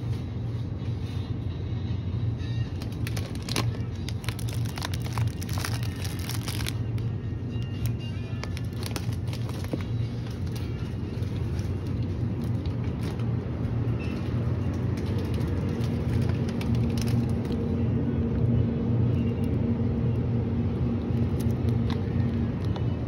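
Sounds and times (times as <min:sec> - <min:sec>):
store background hum: 0:00.0 - 0:23.0.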